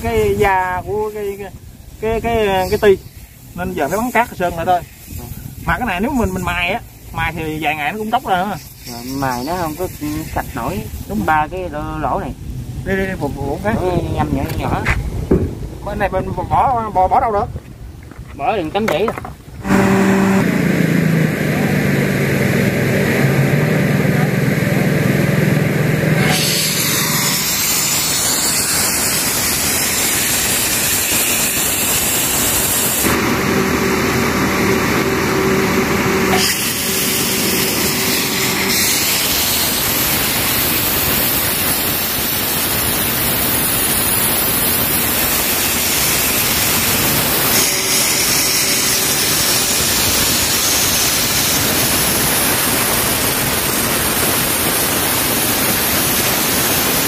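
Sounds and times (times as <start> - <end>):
sandblaster hissing: 0.0 - 12.2, 19.6 - 57.0.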